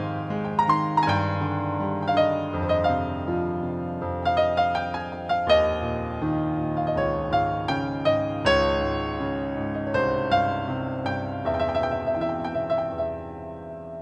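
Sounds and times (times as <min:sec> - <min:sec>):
slow digital piano melody: 0:00.0 - 0:14.0.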